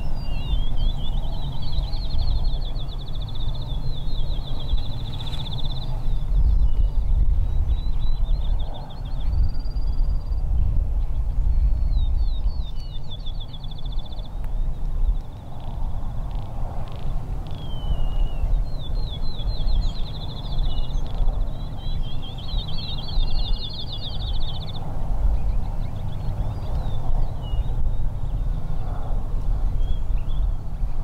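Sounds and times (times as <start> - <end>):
songbird trilling: 0.0 - 10.4, 11.6 - 28.8.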